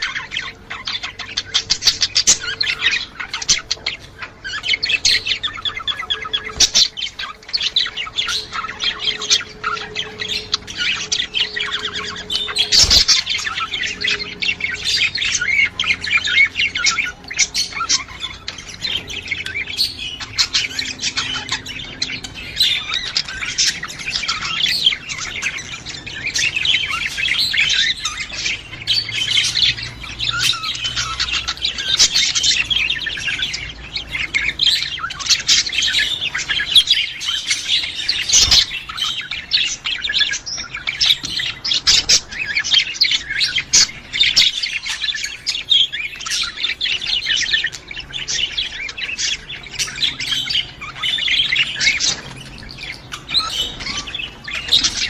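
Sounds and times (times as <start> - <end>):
budgerigars chirping and chattering: 0.0 - 55.0.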